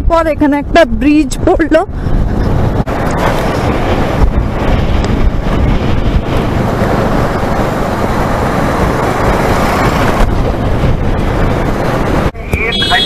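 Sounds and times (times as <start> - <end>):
motorcycle road noise: 0.0 - 13.0
wind rushing over microphone: 0.0 - 13.0.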